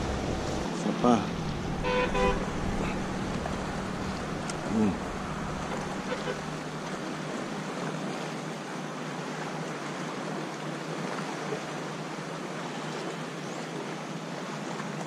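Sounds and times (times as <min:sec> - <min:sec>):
small sea waves lapping: 0:00.0 - 0:15.0.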